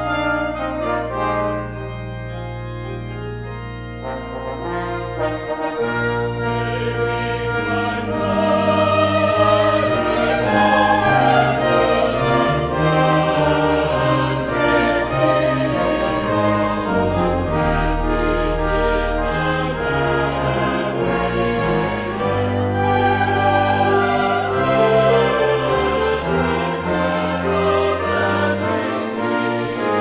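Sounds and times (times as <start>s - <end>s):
church choir singing: 0.0s - 30.0s
organ playing: 0.0s - 30.0s.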